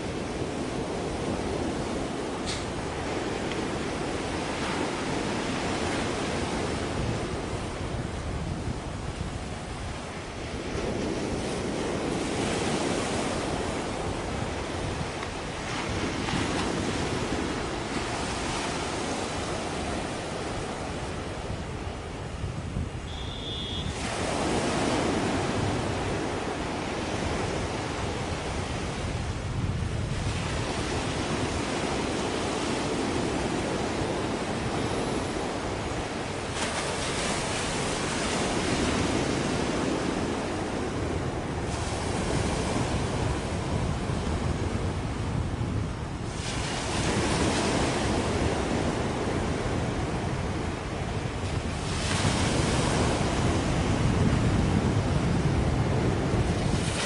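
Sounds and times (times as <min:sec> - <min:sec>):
sea surf rushing: 0:00.0 - 0:57.0
wind buffeting microphone: 0:00.0 - 0:57.0.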